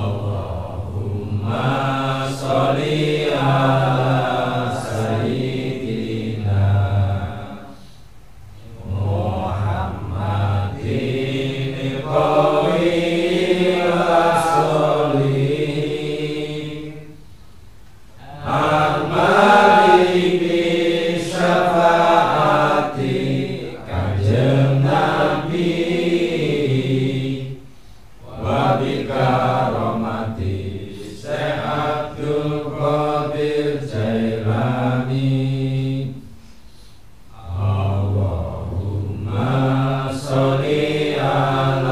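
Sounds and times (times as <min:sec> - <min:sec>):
men chanting devotional recitation: 0:00.0 - 0:08.0, 0:08.6 - 0:17.3, 0:18.1 - 0:36.3, 0:37.3 - 0:41.9.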